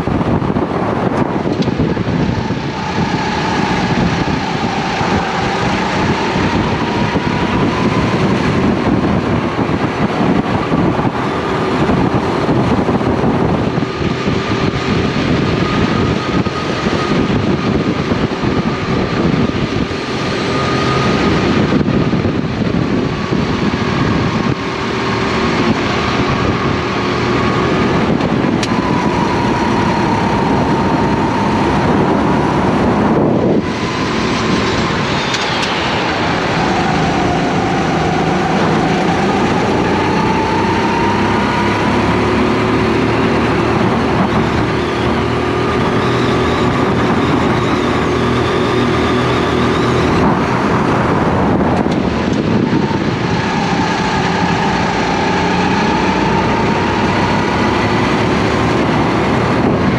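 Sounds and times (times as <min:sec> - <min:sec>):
kart engine revving: 0:00.0 - 0:59.9
rushing wind noise: 0:00.0 - 0:59.9.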